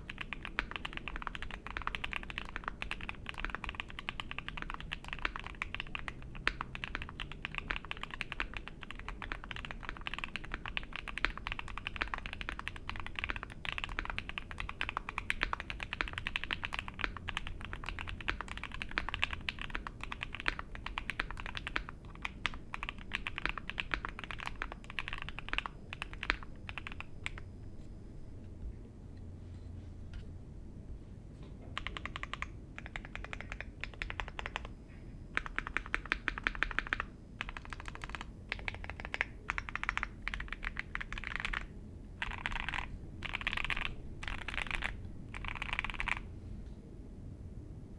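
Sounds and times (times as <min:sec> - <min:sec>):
fast typing on mechanical keyboard: 0:00.0 - 0:27.5, 0:31.8 - 0:46.3.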